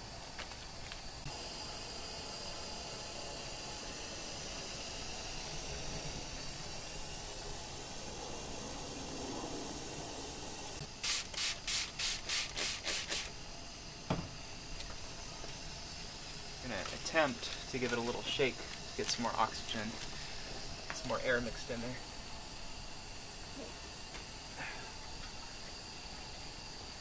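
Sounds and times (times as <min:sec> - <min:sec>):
short hissing bursts: 0:01.1 - 0:26.6.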